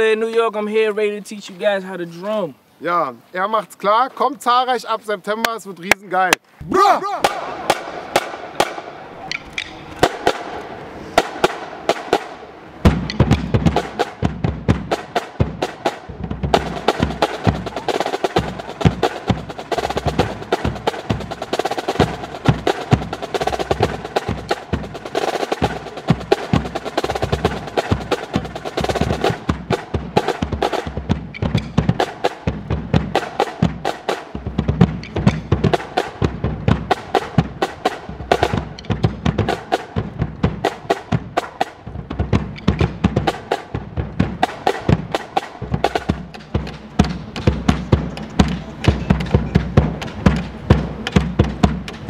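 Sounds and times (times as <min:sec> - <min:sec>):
marching snare drums: 0:06.6 - 0:52.0.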